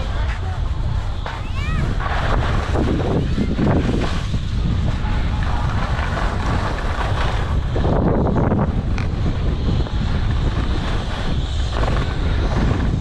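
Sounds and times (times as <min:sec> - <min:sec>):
skis scraping on hard snow: 0:00.0 - 0:13.0
wind rushing over microphone: 0:00.0 - 0:13.0.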